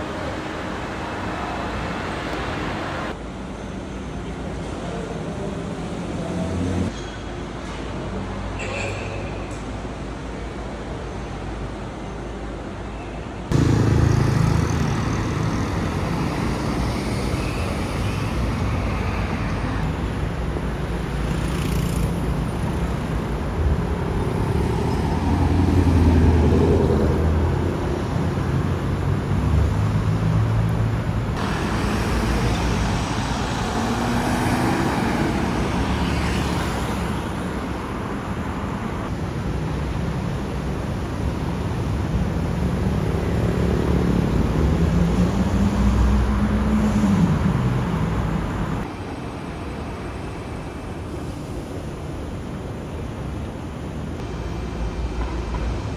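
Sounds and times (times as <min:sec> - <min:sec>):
road traffic: 0:00.0 - 0:55.9.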